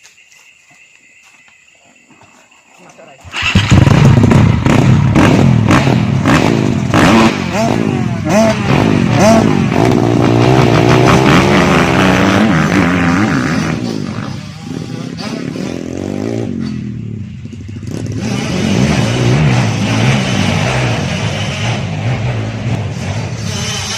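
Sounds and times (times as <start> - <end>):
motorcycle engine revving: 3.2 - 23.9.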